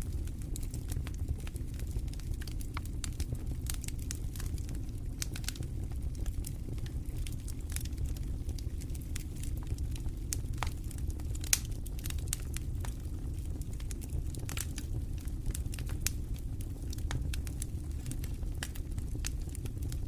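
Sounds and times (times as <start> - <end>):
campfire crackling and popping: 0.0 - 20.0
low rumble of wind: 0.0 - 20.0.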